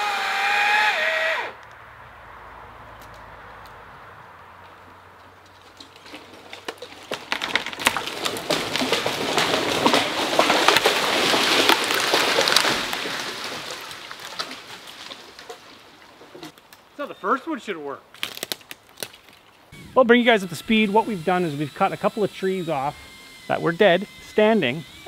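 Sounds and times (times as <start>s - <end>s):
branches crackling and snapping: 0.0s - 17.2s, 18.0s - 25.0s.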